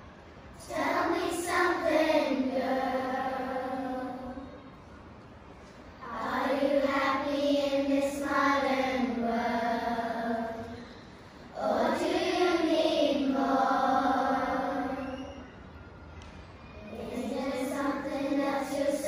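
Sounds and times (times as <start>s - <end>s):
children's choir singing: 0.6s - 4.8s, 5.9s - 15.8s, 16.8s - 19.0s.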